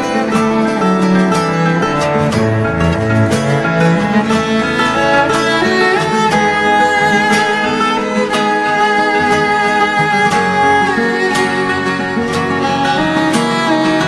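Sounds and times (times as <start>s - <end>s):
country music with fiddle and guitar: 0.0s - 14.0s.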